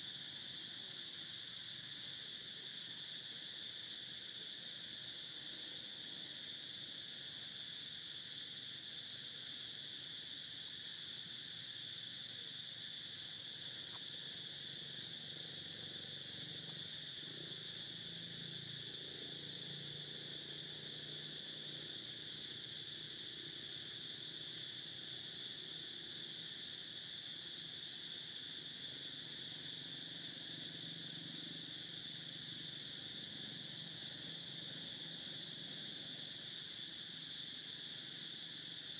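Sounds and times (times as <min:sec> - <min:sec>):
insect chorus buzzing: 0:00.0 - 0:38.9.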